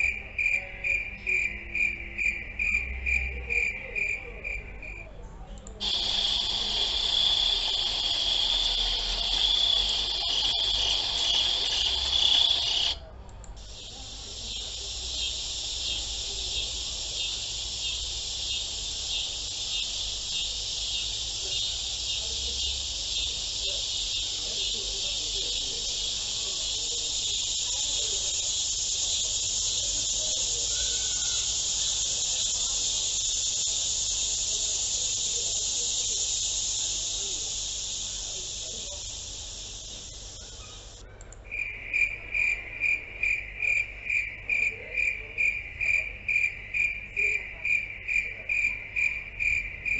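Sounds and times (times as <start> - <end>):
insects chirping: 0.0 - 5.1, 5.7 - 13.0, 13.6 - 49.9.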